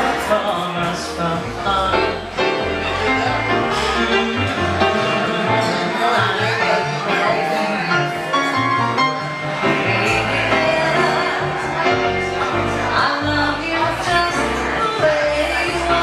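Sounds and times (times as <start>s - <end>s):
moving bass line: 0.0s - 16.0s
small band playing a song: 0.0s - 16.0s.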